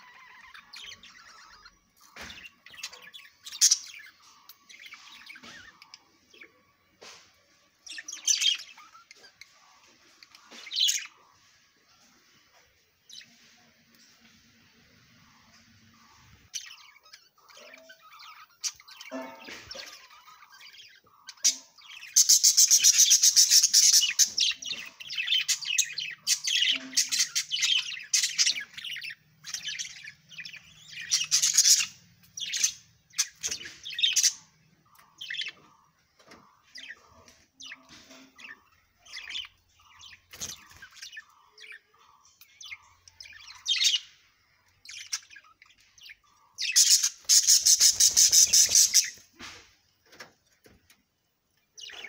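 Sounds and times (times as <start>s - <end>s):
budgerigars chattering and chirping: 0.0s - 7.1s, 7.9s - 11.6s, 15.0s - 49.6s, 51.7s - 52.0s.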